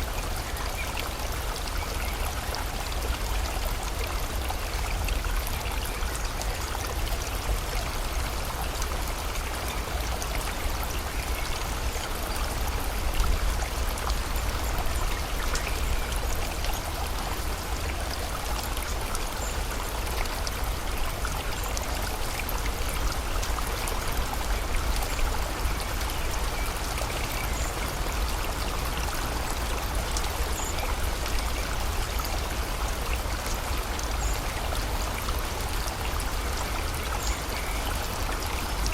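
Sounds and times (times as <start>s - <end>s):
rain: 0.0s - 38.9s
river flowing: 0.0s - 38.9s.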